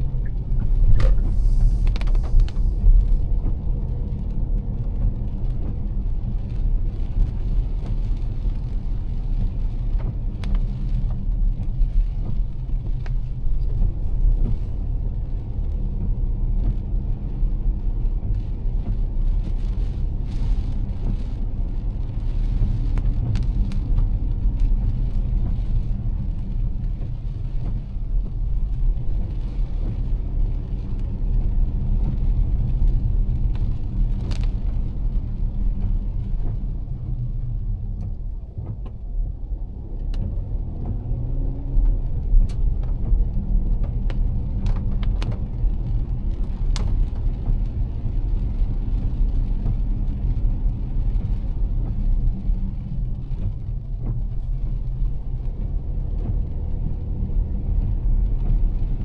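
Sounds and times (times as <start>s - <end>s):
car engine and road rumble: 0.0s - 59.0s
rain and wet tyres hissing: 0.0s - 59.0s.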